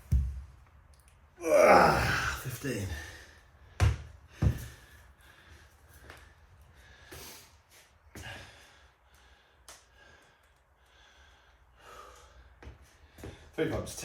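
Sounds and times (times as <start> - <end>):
man breathing hard: 1.4 - 13.6.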